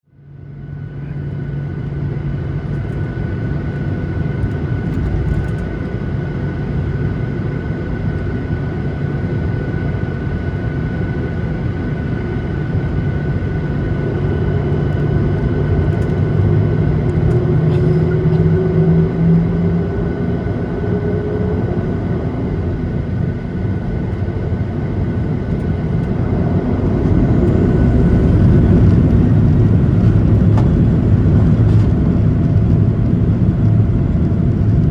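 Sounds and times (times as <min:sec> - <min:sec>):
jet engines rumbling and whining: 0:00.1 - 0:34.9.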